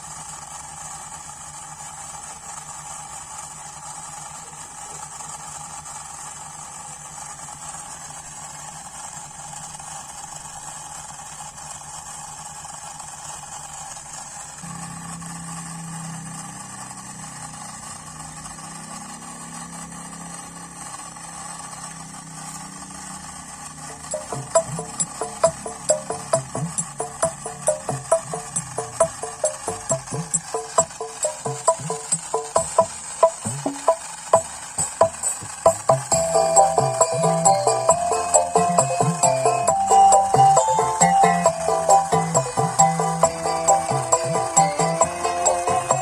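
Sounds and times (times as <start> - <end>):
model generator humming: 0.0 - 46.0.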